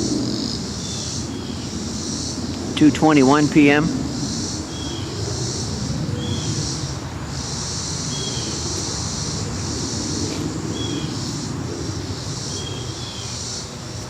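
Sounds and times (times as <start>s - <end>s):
distant jet airliner rumble: 0.0s - 14.0s
faint insect chirps: 0.0s - 14.0s
insects buzzing: 0.0s - 14.0s.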